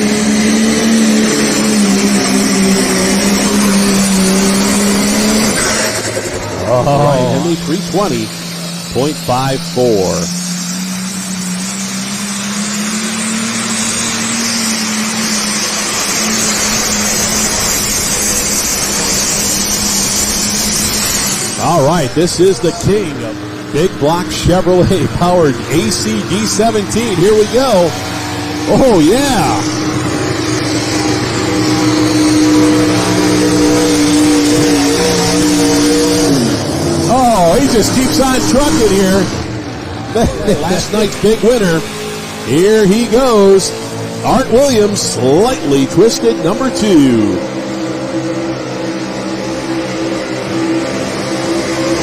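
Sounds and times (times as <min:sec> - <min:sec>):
vehicle engine running loud: 0:00.0 - 0:52.0.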